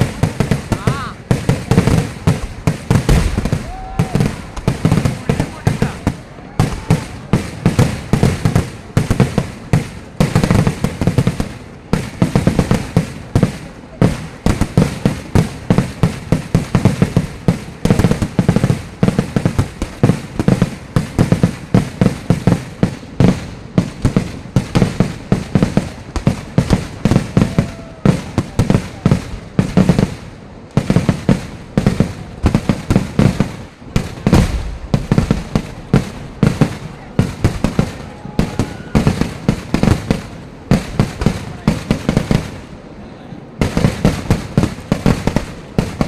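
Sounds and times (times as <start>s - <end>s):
fireworks exploding: 0.0s - 46.0s.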